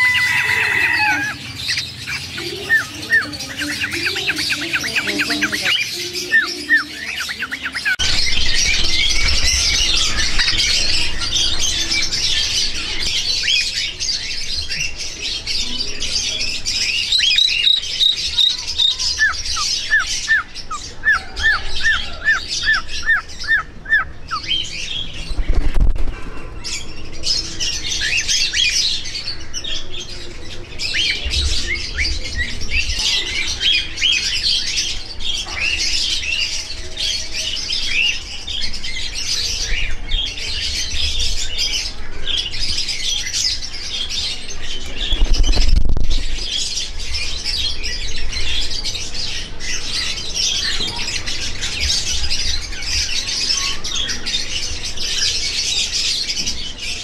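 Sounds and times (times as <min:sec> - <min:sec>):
birds chirping and squawking: 0:00.0 - 0:57.0.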